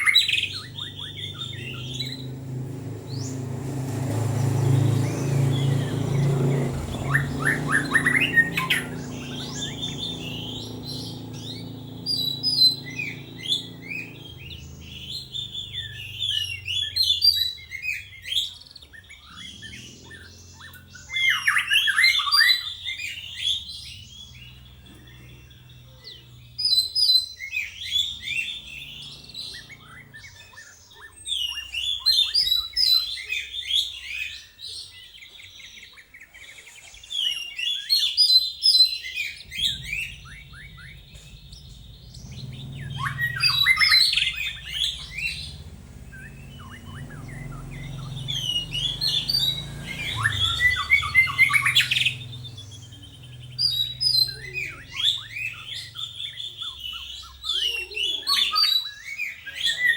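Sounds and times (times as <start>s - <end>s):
bird singing twittering: 0.0s - 59.9s.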